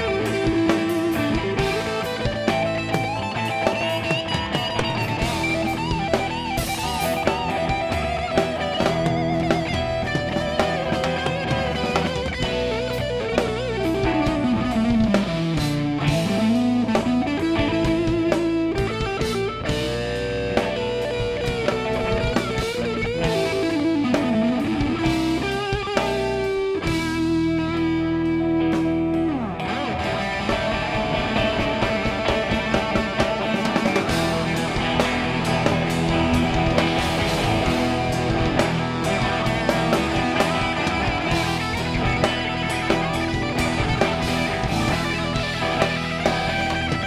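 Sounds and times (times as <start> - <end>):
drum kit: 0.0 - 47.0
electric guitar lead: 0.0 - 47.0.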